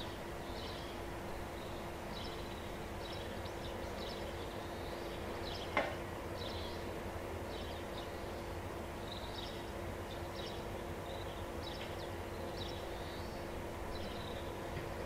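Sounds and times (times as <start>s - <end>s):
small birds chirping: 0.4s - 5.8s, 6.4s - 6.9s, 7.5s - 14.7s.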